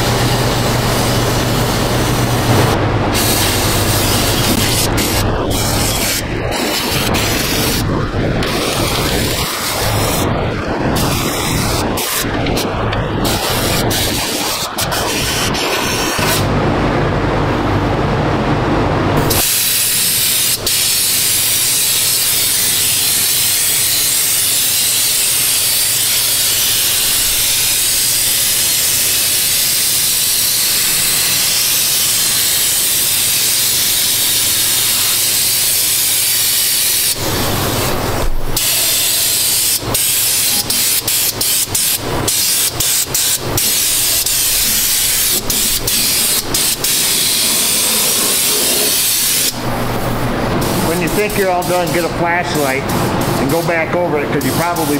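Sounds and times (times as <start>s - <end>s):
spray gun hissing: 2.1s - 10.4s, 11.0s - 16.4s, 19.3s - 53.6s.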